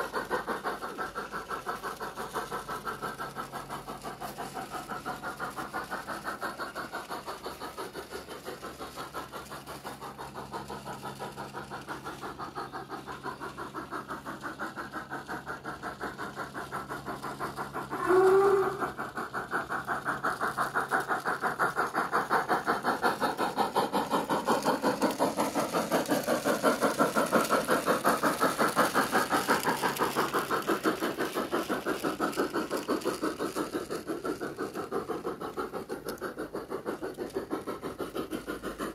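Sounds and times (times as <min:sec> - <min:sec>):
steam chuffs from small speaker: 0:00.0 - 0:38.9.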